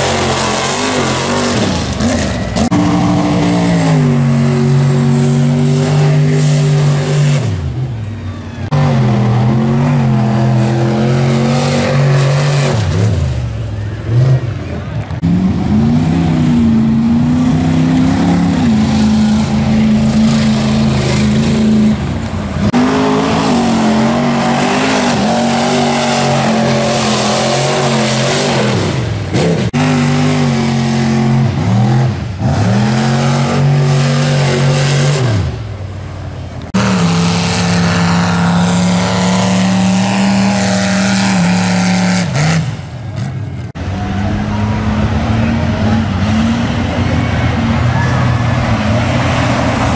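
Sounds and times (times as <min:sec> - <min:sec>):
truck engine revving hard: 0:00.0 - 0:49.9
tyres churning mud: 0:00.0 - 0:49.9.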